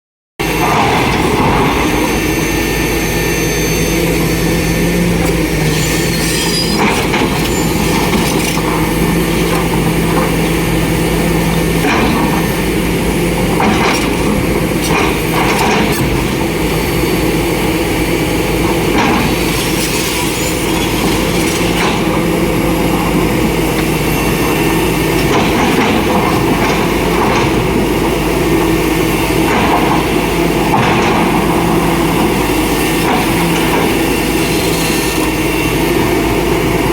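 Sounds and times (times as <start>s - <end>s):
excavator diesel engines droning: 0.4s - 36.9s.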